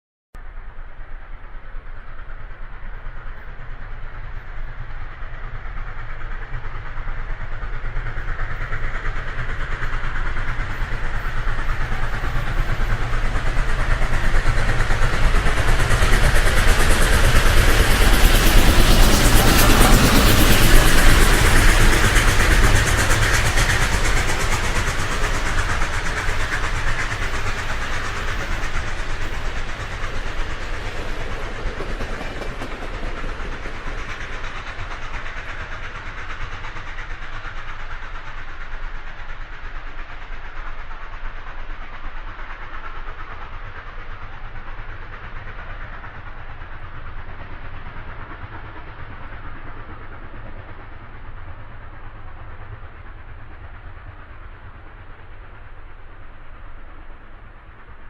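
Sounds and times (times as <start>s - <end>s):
passing train rumble: 0.4s - 58.0s.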